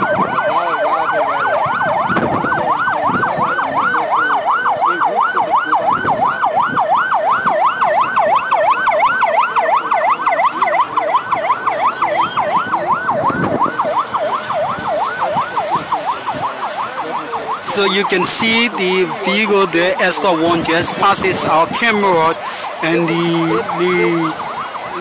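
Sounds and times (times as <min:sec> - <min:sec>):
electronic siren yelping: 0:00.0 - 0:25.0.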